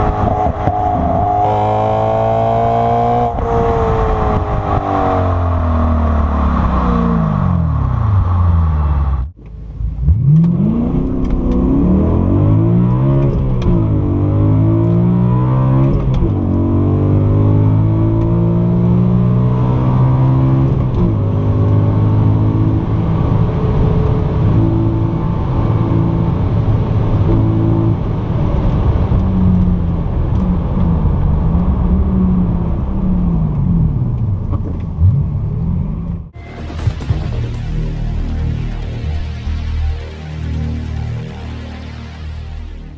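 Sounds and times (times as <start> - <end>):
car engine revving: 0.0 - 32.8, 33.4 - 42.9.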